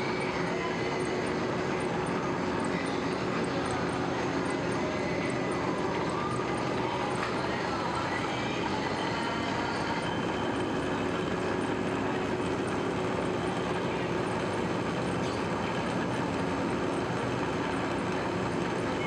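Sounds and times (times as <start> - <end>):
clay extruder machine running: 0.0 - 19.0.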